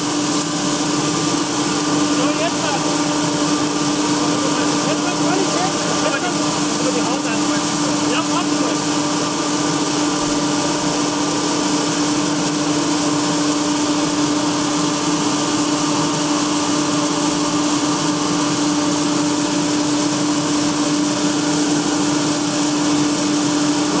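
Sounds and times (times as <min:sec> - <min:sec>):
combine harvester hum: 0:00.0 - 0:24.0
grain pouring: 0:00.0 - 0:24.0.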